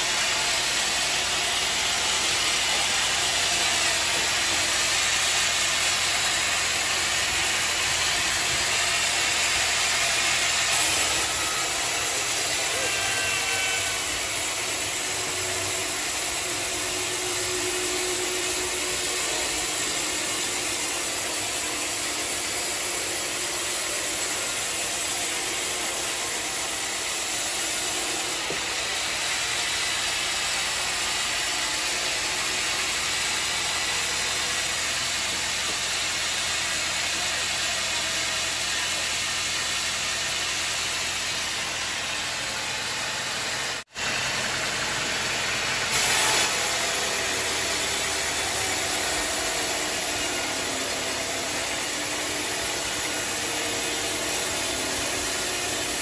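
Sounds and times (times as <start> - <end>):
band saw cutting a log: 0.0 - 56.0.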